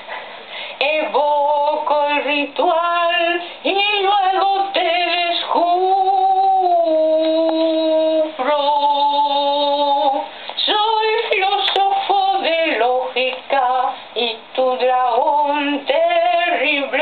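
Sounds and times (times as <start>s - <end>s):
woman singing unaccompanied: 0.7s - 17.0s.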